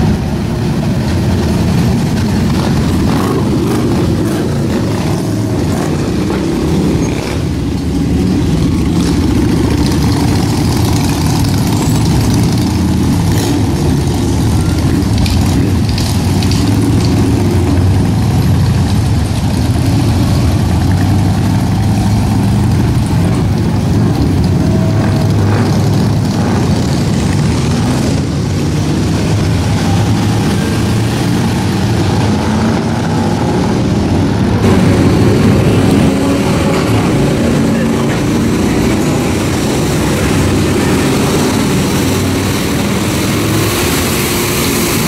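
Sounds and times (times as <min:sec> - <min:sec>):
car engines: 0:00.0 - 0:45.0
motorcycle engines rumbling: 0:00.0 - 0:45.0.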